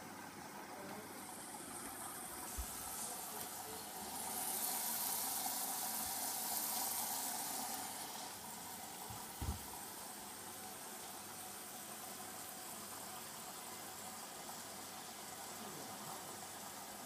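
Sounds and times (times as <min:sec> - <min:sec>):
water rushing in washing machine: 0:00.0 - 0:17.0.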